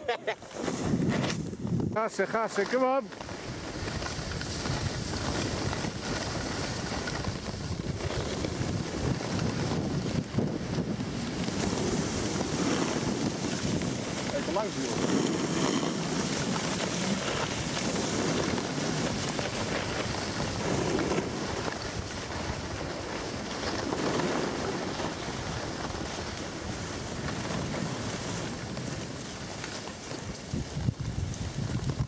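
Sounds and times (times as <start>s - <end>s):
wind on microphone: 0.0s - 2.2s, 3.3s - 32.0s
skis scraping over snow: 0.0s - 32.0s.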